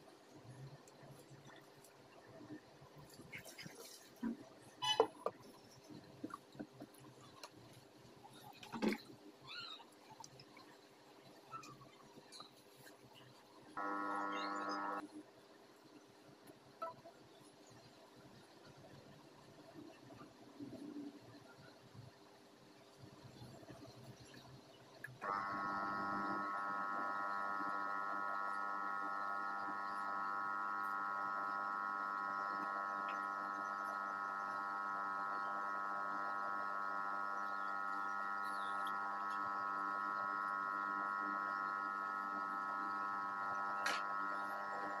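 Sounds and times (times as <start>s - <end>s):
aquarium air pump humming: 0.0s - 15.1s, 22.9s - 45.0s.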